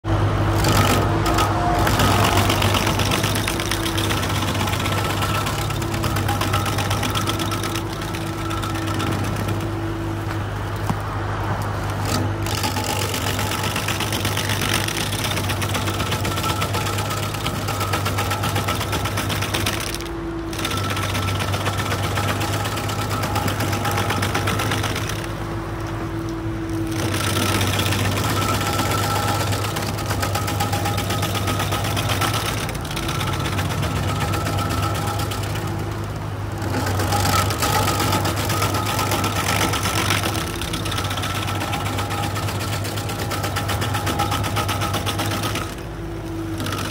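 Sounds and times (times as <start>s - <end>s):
cutter wheel grinding wood: 0.0s - 46.9s
stump grinder engine running: 0.0s - 46.9s.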